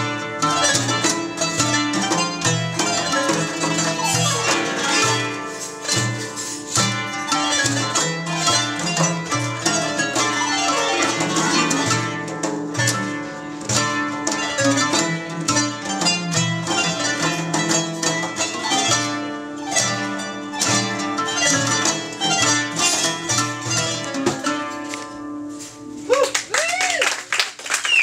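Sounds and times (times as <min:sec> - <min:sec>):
frame drum: 0:00.0 - 0:26.2
plucked string instruments: 0:00.0 - 0:26.2.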